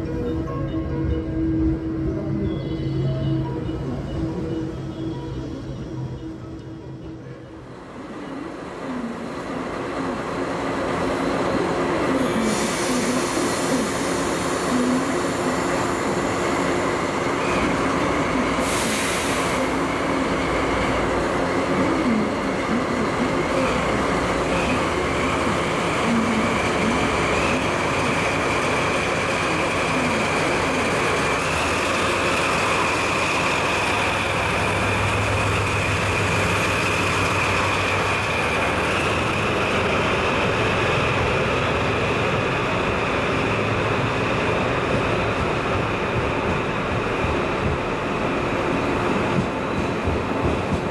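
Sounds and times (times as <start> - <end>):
diesel locomotive engine running: 0.1 - 50.9.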